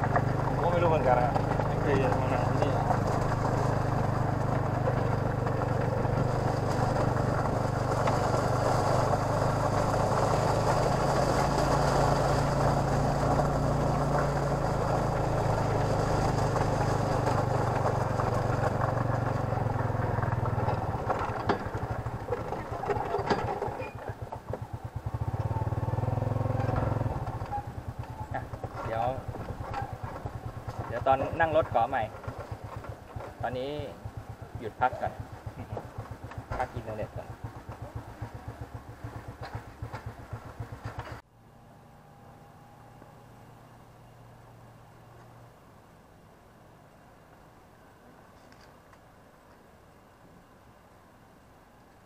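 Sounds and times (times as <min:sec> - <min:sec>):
motorcycle engine running: 0:00.0 - 0:44.8.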